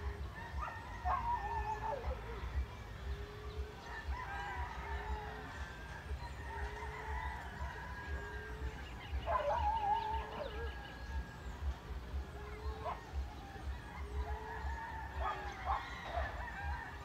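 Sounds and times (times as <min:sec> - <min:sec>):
dove hooting: 0:00.0 - 0:17.0
loud wavering bird call: 0:00.0 - 0:17.0
other birds calling: 0:00.0 - 0:17.0.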